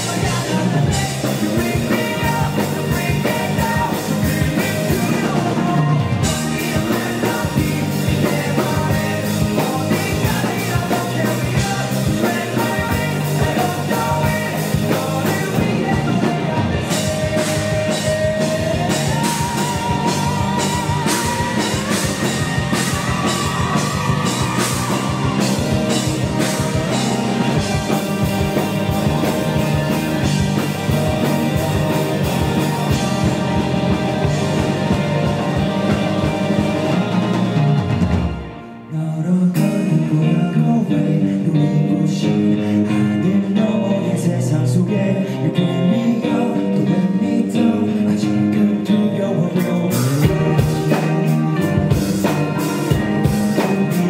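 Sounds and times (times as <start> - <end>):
lead guitar line with vibrato: 0.0 - 54.0
live rock band playing: 0.0 - 54.0.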